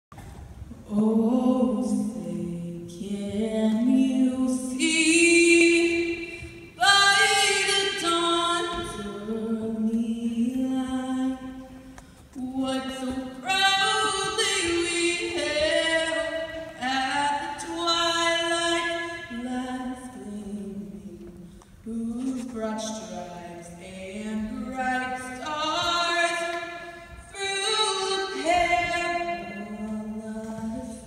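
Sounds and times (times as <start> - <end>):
anthem sung unaccompanied: 0.9 - 31.0.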